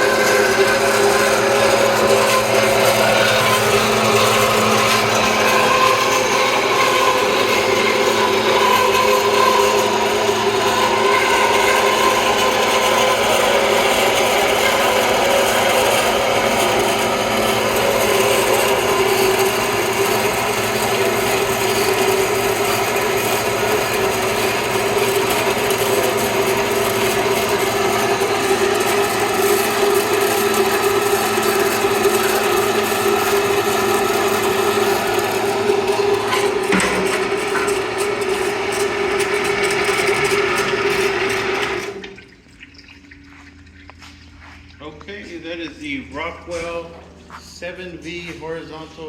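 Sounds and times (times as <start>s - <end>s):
saw blade rasping through metal: 0.0s - 42.0s
bandsaw motor humming: 0.0s - 42.4s.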